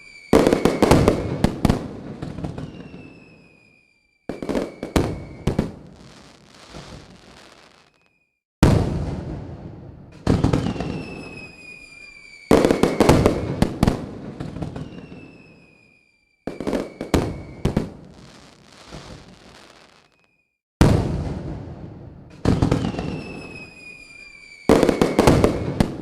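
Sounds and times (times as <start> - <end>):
firework whistles: 0.0 - 8.4, 10.2 - 20.6, 22.5 - 26.0
firework crackling: 0.0 - 9.4, 10.1 - 20.4, 22.3 - 26.0
firework bangs: 0.0 - 26.0.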